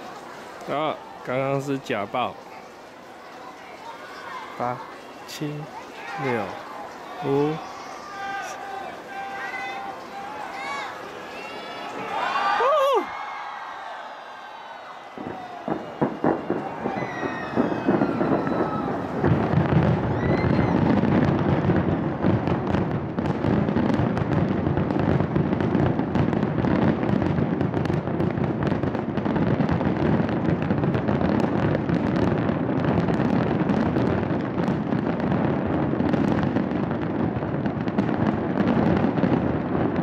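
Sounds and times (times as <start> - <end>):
fireworks bangs and crackles: 0.0 - 13.3, 14.5 - 40.0.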